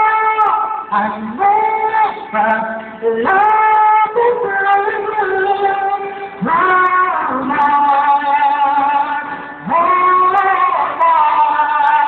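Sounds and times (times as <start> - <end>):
person singing ballad: 0.0 - 12.0.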